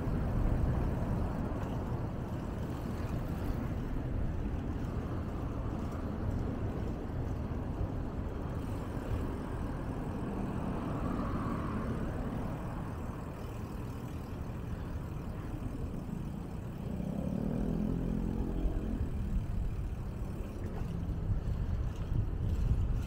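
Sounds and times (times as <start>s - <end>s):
road traffic passing: 0.0s - 23.0s
vehicle engine hum: 0.0s - 23.0s
wind rumble on microphone: 0.0s - 23.0s.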